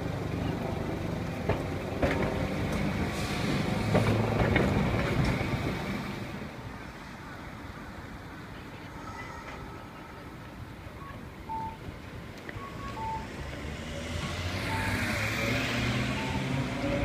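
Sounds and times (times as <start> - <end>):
street background: 0.0 - 17.0
streetcar wheels rumbling on rails: 0.0 - 17.0.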